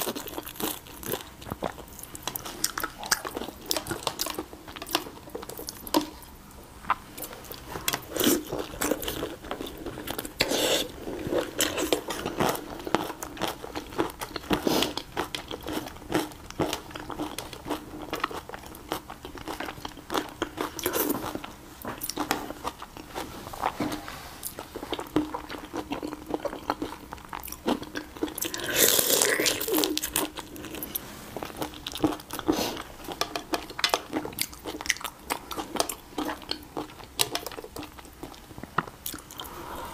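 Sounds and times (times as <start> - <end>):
chewing: 0.0 - 39.6.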